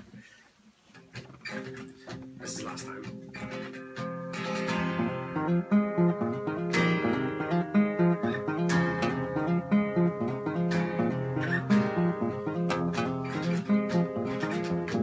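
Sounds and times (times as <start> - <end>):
acoustic guitar picking: 0.9 - 15.0
sharp guitar strum: 1.5 - 15.0.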